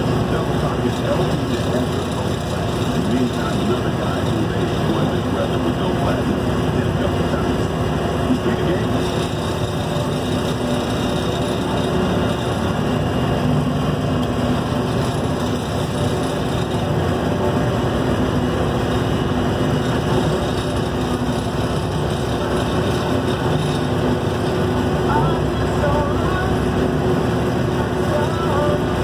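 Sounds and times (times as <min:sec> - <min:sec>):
wind and road noise: 0:00.0 - 0:28.1
vehicle engine running: 0:00.0 - 0:29.0.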